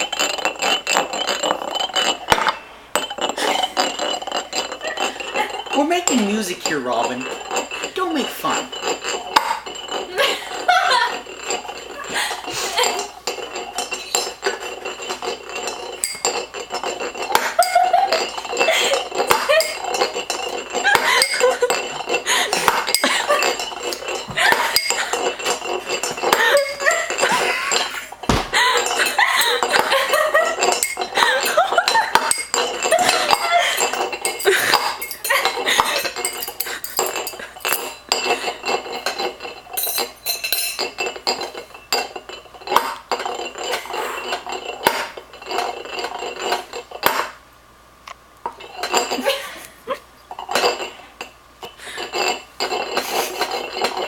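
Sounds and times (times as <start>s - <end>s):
fork tapping on cups: 0.0s - 47.4s.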